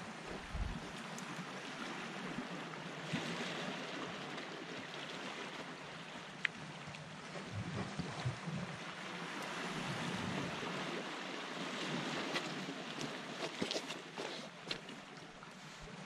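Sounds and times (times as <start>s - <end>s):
waves on rocky shore: 0.0s - 16.0s.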